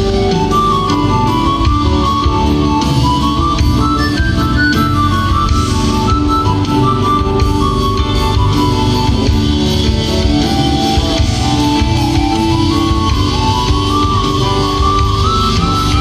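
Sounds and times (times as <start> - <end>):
bass guitar: 0.0 - 16.0
drum kit: 0.0 - 16.0
electric guitar: 0.0 - 16.0
keyboards: 0.0 - 16.0.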